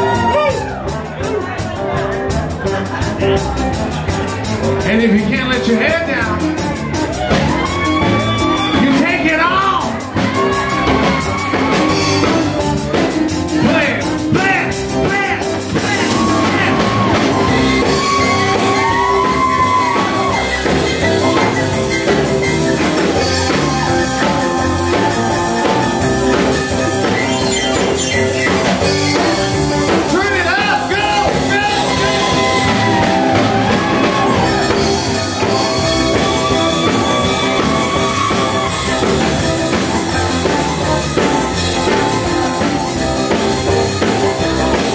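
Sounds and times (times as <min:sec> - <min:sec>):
drums: 0:00.0 - 0:44.9
keyboard: 0:00.0 - 0:44.9
pitch-bending lead line: 0:00.0 - 0:44.9
rock band playing: 0:00.0 - 0:44.9.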